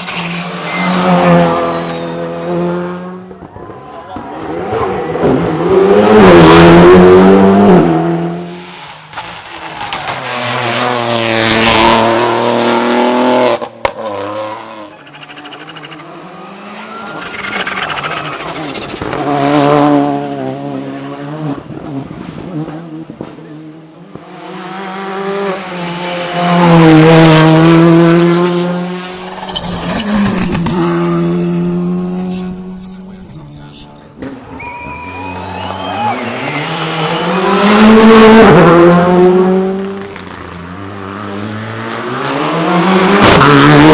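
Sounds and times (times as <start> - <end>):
rally cars revving past: 0.0 - 3.4, 4.2 - 33.0, 34.2 - 43.9.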